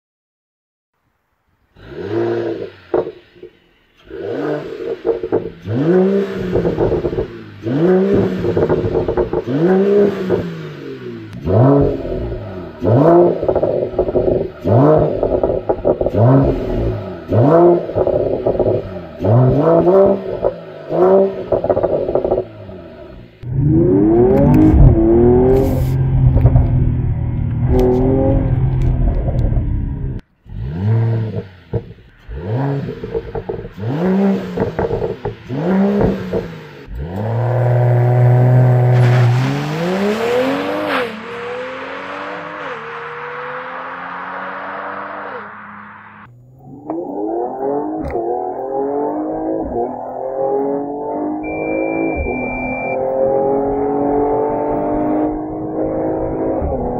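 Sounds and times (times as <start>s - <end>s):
car accelerating with upshifts: 1.6s - 56.9s
car engine revving: 1.7s - 56.9s.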